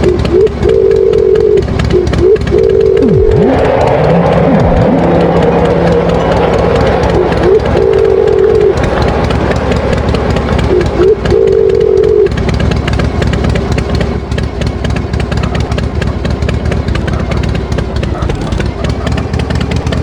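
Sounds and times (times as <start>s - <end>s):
held even tones: 0.0s - 20.0s
tractor engine idling: 0.0s - 20.0s.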